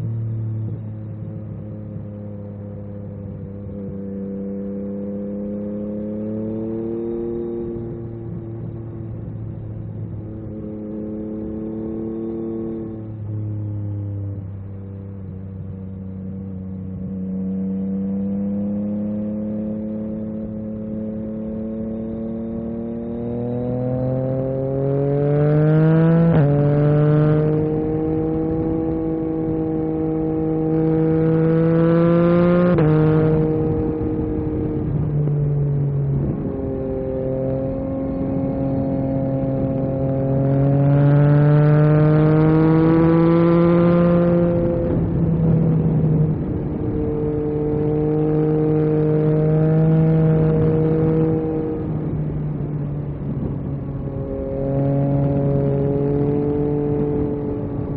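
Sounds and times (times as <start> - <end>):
motorcycle engine shifting gears: 0.6 - 57.9.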